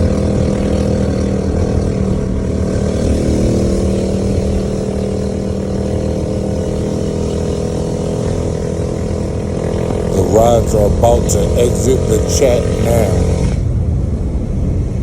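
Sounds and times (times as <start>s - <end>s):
single-cylinder engine running: 0.0s - 13.9s.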